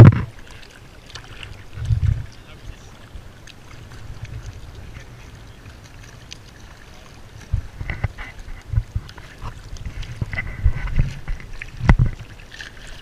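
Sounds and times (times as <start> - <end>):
wind on microphone: 0.0 - 0.4, 1.4 - 6.2, 6.8 - 13.0
water lapping at rock: 0.0 - 13.0.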